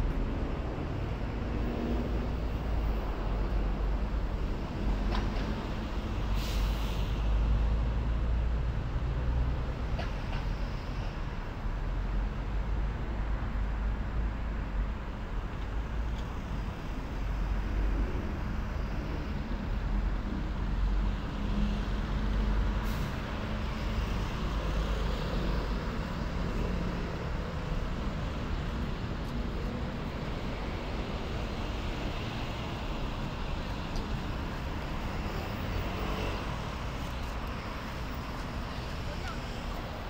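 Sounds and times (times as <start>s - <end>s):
cars and buses passing: 0.0s - 40.0s.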